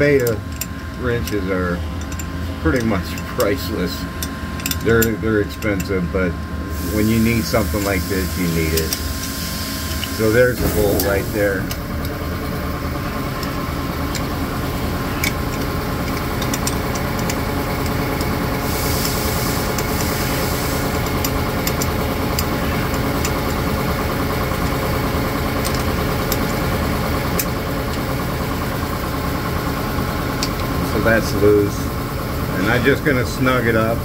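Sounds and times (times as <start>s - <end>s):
wrench metallic clicks: 0.0s - 6.0s, 6.8s - 28.2s
motor humming: 0.0s - 34.0s.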